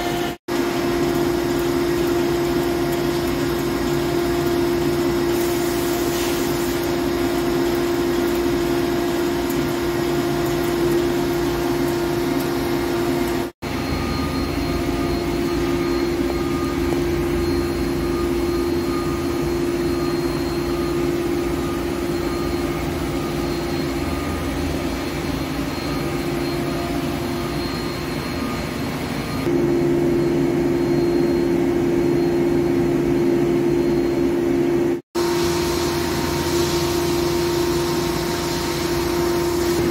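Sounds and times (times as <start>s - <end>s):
lathe machine running with hum: 0.0s - 39.9s.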